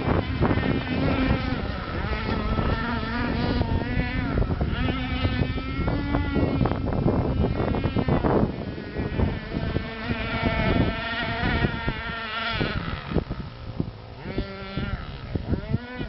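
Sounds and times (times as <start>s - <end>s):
model boat motor whining: 0.0s - 16.0s.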